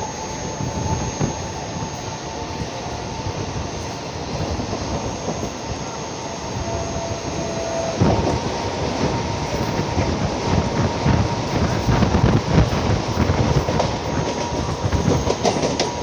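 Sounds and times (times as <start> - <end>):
train passing close by: 0.0 - 16.0
train wheels rumbling on rail: 0.0 - 16.0.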